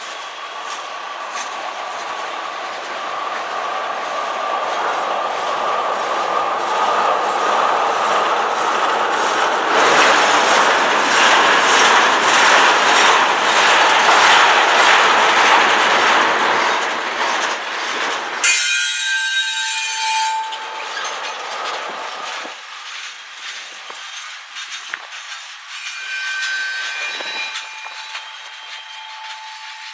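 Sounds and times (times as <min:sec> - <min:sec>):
steel wheels squealing on rail: 0:00.0 - 0:14.1, 0:18.4 - 0:29.9
freight train rumbling past: 0:00.0 - 0:29.9.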